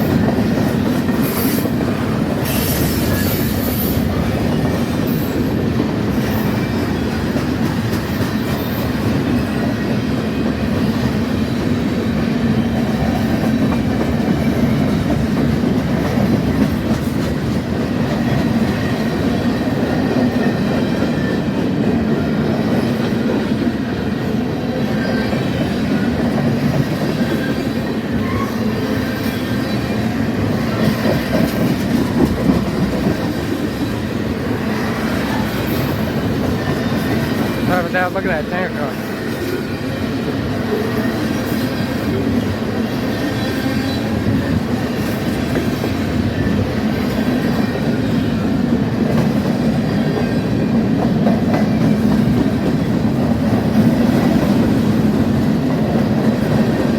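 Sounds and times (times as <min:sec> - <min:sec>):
freight train cars rolling: 0:00.0 - 0:56.9.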